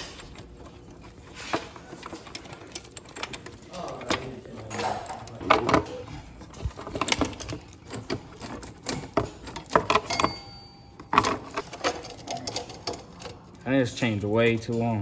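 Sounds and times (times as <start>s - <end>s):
metal chain clinking: 1.0s - 15.0s.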